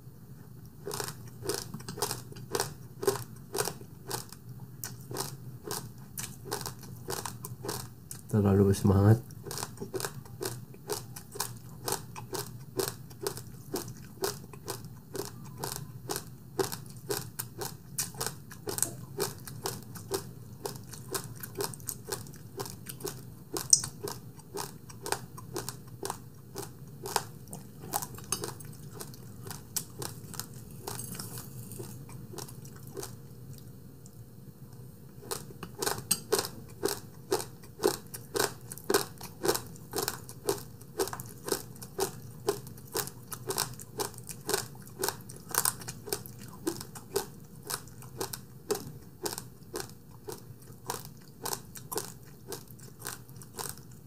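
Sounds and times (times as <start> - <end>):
chewing crunchy food: 0.3 - 54.0.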